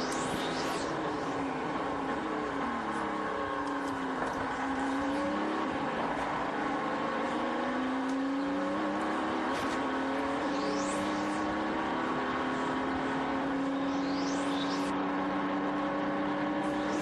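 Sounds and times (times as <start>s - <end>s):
racing car engine: 0.0s - 17.0s.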